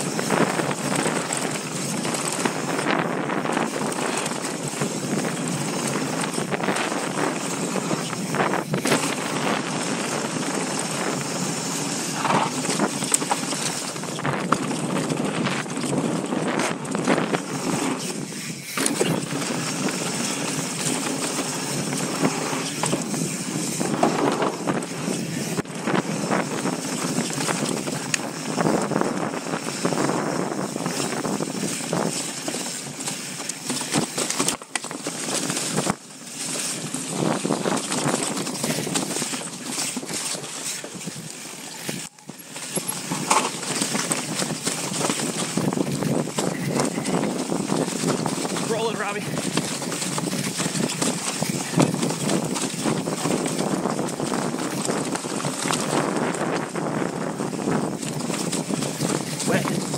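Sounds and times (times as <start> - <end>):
bike rattling and knocking: 0.0 - 59.9
tyres rumbling over dirt and rocks: 0.0 - 59.9.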